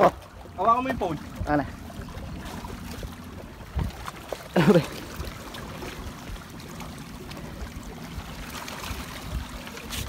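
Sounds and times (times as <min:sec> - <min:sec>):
water lapping against rocks: 0:00.0 - 0:10.0.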